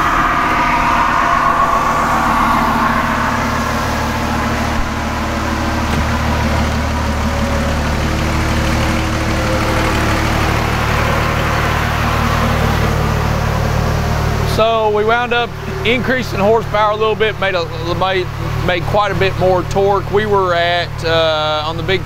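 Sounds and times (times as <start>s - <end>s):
diesel engine idling: 0.0s - 22.0s
dyno rollers rushing: 0.0s - 22.0s.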